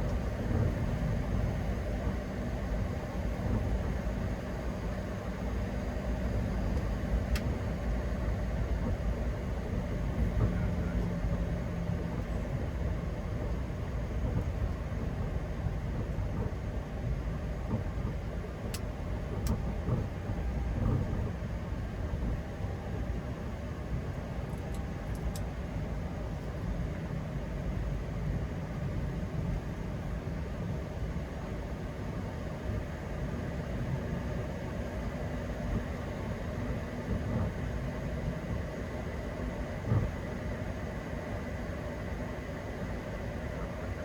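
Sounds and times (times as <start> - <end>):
aircraft engine rumble: 0.0 - 44.0.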